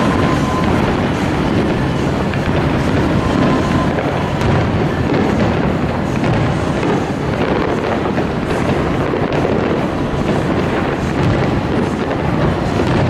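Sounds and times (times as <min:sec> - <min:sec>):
fireworks rumble of shell bursts: 0:00.0 - 0:13.0.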